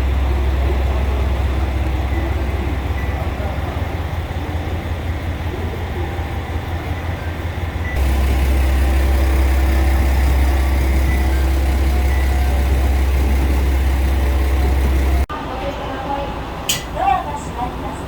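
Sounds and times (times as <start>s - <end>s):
diesel railcar engine droning: 0.0s - 18.0s.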